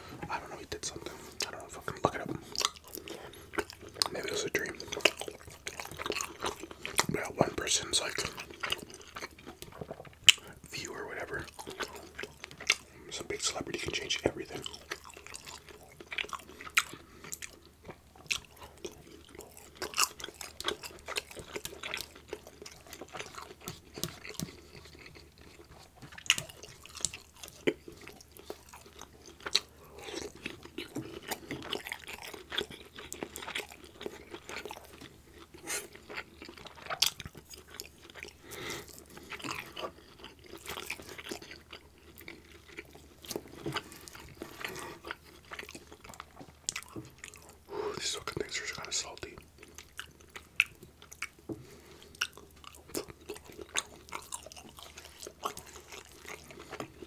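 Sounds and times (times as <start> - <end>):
close chewing with mouth smacks: 0.0 - 57.0.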